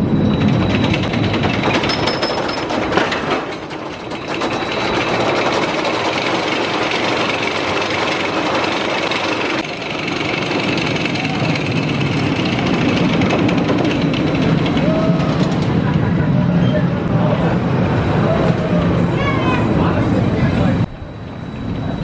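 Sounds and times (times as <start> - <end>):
roller coaster wheels rattling on track: 0.0 - 22.0.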